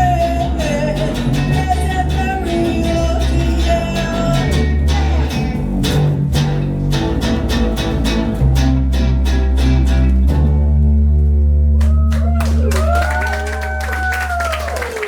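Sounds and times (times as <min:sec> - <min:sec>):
electric guitar: 0:00.0 - 0:14.4
bass guitar: 0:00.0 - 0:15.0.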